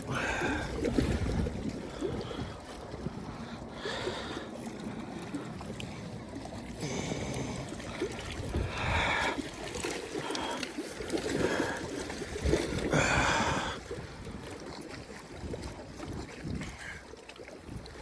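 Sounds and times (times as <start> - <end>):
low rumble of wind: 0.0 - 18.0
water sloshing and splashing: 0.0 - 18.0.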